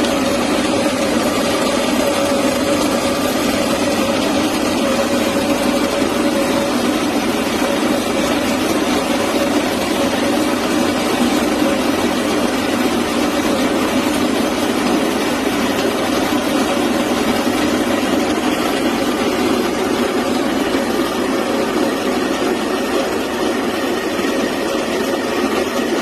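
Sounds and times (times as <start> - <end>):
coffee grinder running: 0.0 - 26.0.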